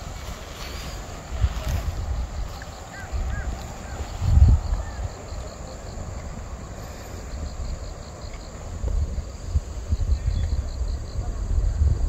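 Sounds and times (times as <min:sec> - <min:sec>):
insect chirping: 0:00.0 - 0:12.0
wind buffeting microphone: 0:00.0 - 0:12.0.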